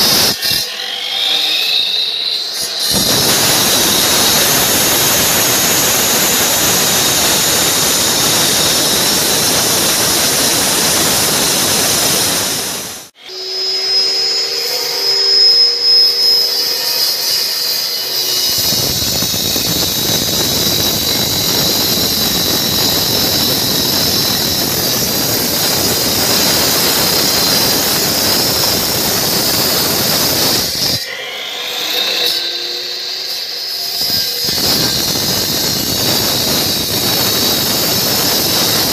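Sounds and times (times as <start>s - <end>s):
machine whine: 0.0s - 38.9s
saw blade cutting concrete: 0.0s - 38.9s.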